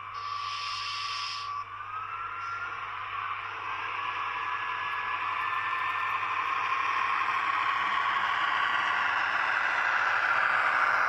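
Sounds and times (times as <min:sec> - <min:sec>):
faint whine: 0:00.0 - 0:11.0
model train rattling along track: 0:00.0 - 0:11.0.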